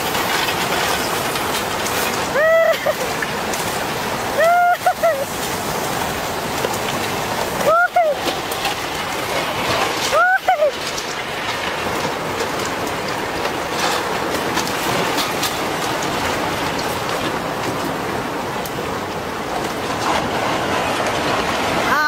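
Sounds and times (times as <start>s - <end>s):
floodwater rushing with debris: 0.0s - 22.0s.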